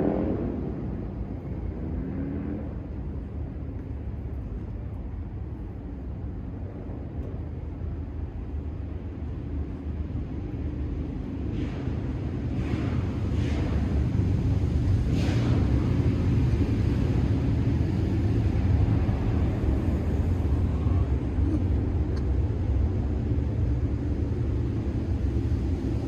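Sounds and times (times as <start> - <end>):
faint distant engine drone: 0.0 - 26.0
steady low rumble: 0.0 - 26.0.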